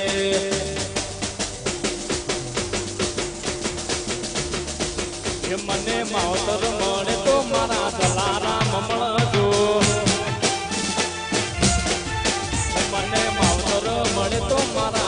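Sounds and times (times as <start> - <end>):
devotional band music: 0.0 - 15.0
fast drumbeat on dhol: 0.0 - 15.0
keyboards: 0.0 - 15.0.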